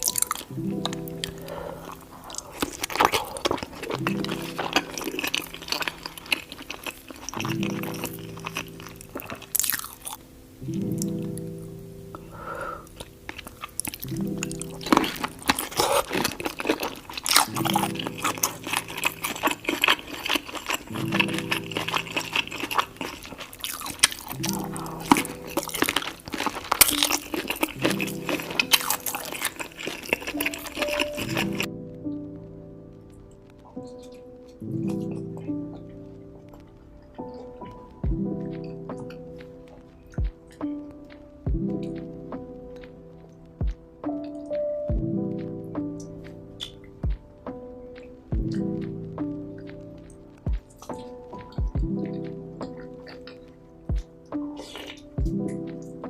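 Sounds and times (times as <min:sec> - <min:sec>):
wet crunching and chewing: 0:00.0 - 0:11.4, 0:12.2 - 0:31.7, 0:33.5 - 0:44.7, 0:46.0 - 0:56.0
background music: 0:00.0 - 0:56.0.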